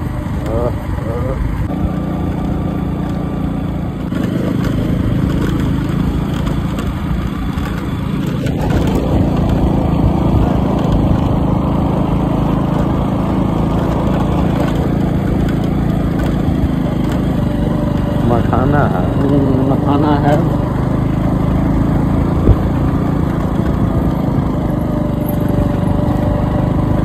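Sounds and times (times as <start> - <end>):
small motorcycle engine revving: 0.0 - 27.0.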